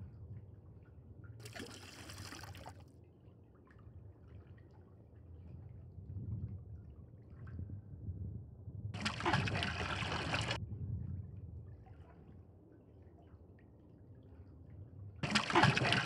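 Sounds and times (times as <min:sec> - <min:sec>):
low steady rumble: 0:00.0 - 0:15.2.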